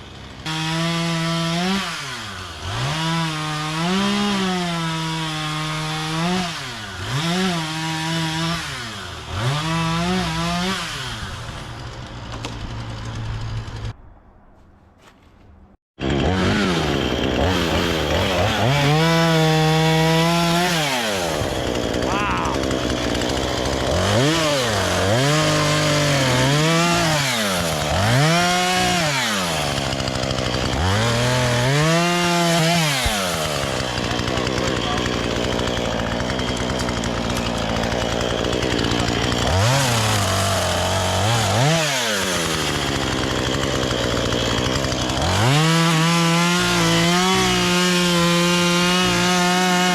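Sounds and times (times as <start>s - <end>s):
chainsaw running: 0.0s - 14.0s, 16.0s - 49.9s.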